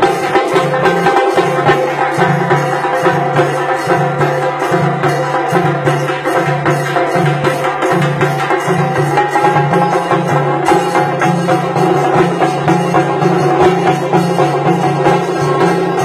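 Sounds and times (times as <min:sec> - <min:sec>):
drums played fast with sticks: 0:00.0 - 0:16.0.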